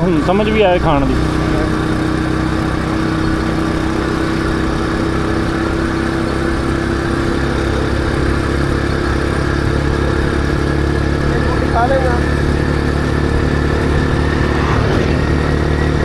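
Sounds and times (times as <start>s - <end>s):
motorcycle engine running: 0.0s - 16.0s
road noise rushing: 0.0s - 16.0s.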